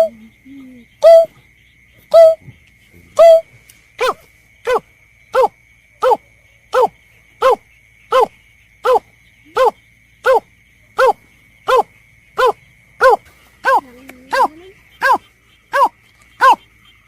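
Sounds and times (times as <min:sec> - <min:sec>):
bark-like bird call: 0:02.1 - 0:02.4, 0:03.2 - 0:16.7.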